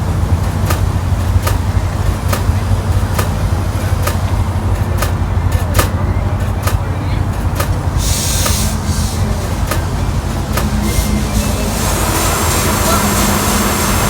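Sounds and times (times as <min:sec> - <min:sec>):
train rumbling: 0:00.0 - 0:14.0
wheels clicking on rail joints: 0:00.0 - 0:14.0.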